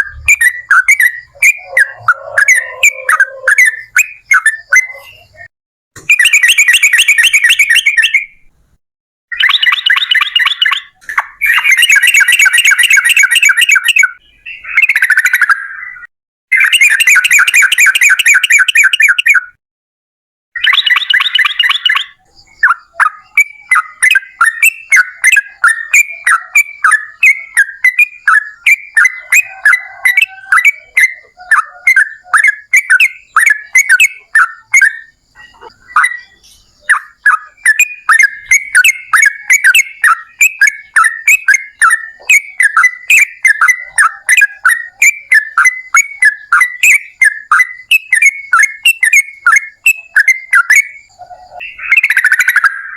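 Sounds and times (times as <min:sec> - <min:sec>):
bird singing rapid chattering notes: 0:00.0 - 0:08.5, 0:09.3 - 0:19.6, 0:20.6 - 0:52.9.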